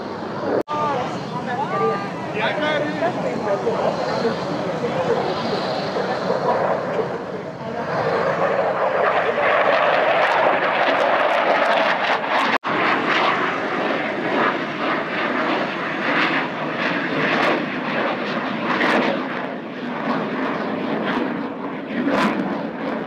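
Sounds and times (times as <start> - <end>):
aircraft engines overhead: 0.0 - 23.0.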